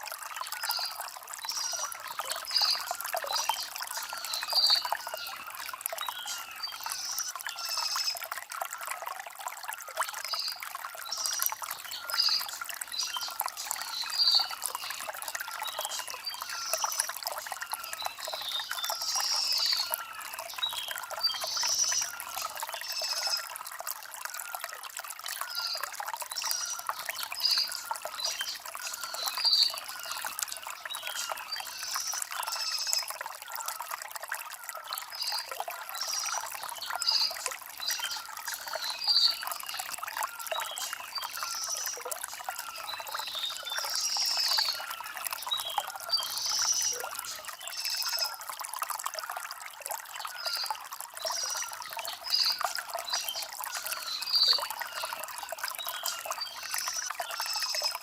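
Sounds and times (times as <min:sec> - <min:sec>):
water trickling over stones: 0:00.0 - 0:58.0.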